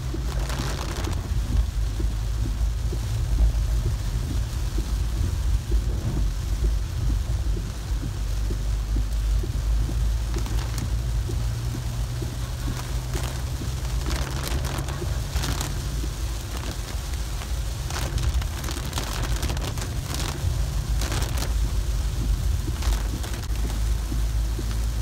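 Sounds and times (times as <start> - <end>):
car engine and road rumble: 0.0 - 25.0
rain on car: 0.0 - 25.0.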